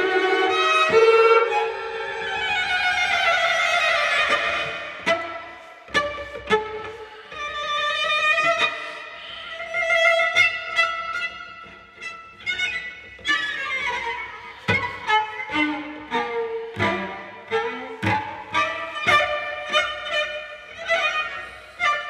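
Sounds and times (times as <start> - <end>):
bowed cello: 0.0 - 22.0.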